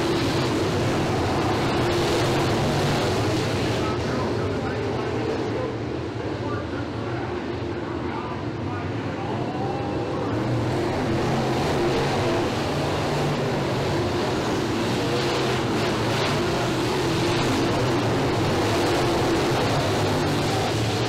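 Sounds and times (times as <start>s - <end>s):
race car engines at speed: 0.0s - 21.0s.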